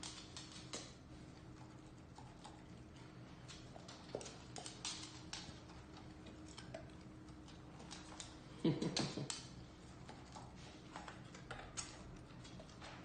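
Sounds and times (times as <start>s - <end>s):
dog claws tapping on hard floor: 0.0s - 1.0s, 3.4s - 13.0s
low steady hum: 0.0s - 13.0s.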